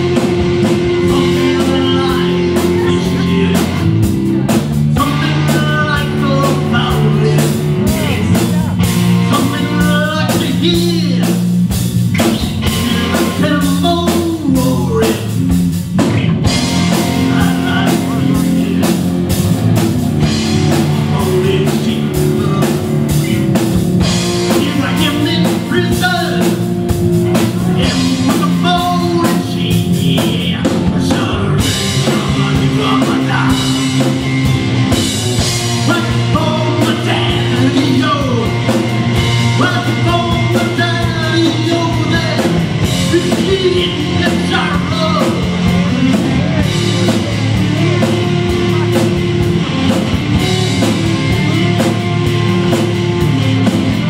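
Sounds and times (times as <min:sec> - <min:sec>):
drum kit: 0:00.0 - 0:54.0
electric bass: 0:00.0 - 0:54.0
electric guitars: 0:00.0 - 0:54.0.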